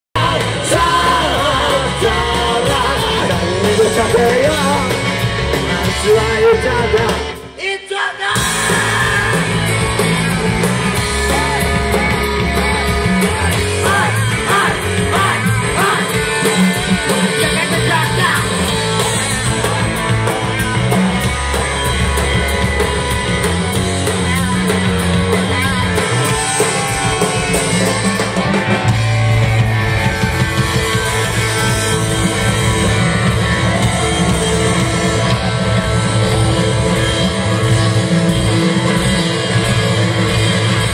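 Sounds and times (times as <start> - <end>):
live rock band playing: 0.2 - 40.9.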